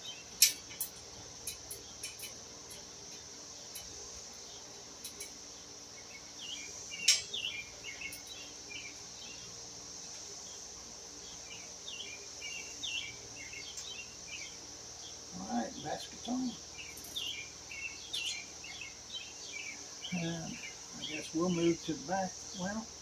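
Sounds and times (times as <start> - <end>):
birds chirping: 0.0 - 23.0
crickets and insects droning: 0.0 - 23.0.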